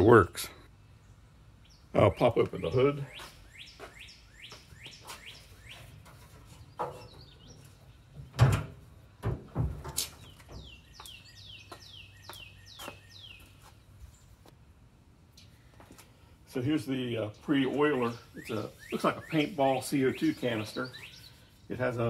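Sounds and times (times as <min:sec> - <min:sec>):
songbird chirping: 0:00.0 - 0:14.7, 0:15.3 - 0:22.0.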